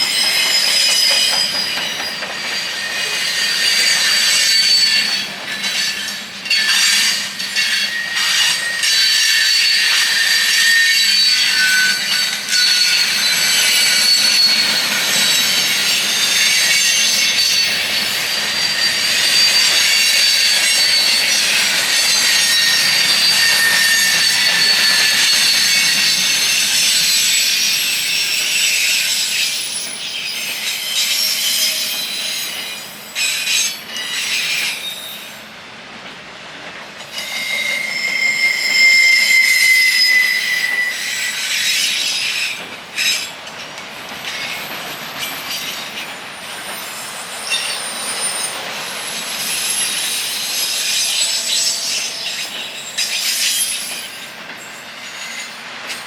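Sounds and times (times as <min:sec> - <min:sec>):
train wheels squealing: 0:00.0 - 0:35.6, 0:37.0 - 0:56.0.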